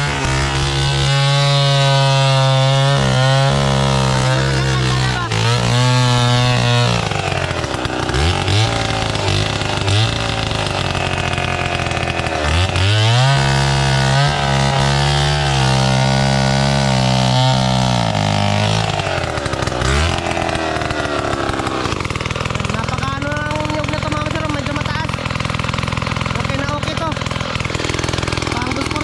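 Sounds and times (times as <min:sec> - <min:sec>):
chainsaw engine revving: 0:00.0 - 0:29.0.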